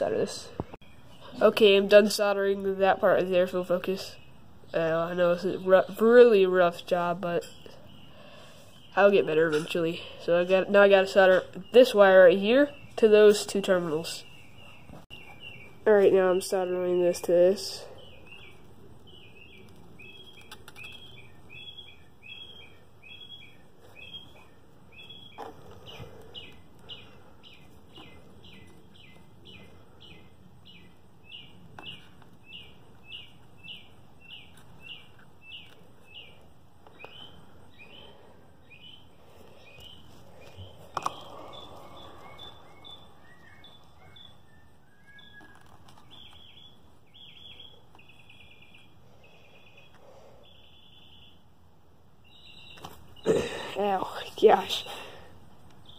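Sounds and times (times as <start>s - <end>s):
bird chirping: 0.0s - 51.6s, 52.2s - 55.9s.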